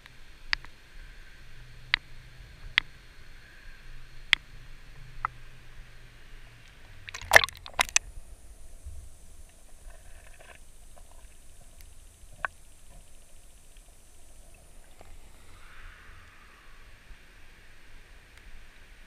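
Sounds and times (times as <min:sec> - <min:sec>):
faint clicks: 0:00.0 - 0:06.0, 0:06.6 - 0:08.2, 0:08.8 - 0:17.2
water splashing and gurgling: 0:00.0 - 0:19.0.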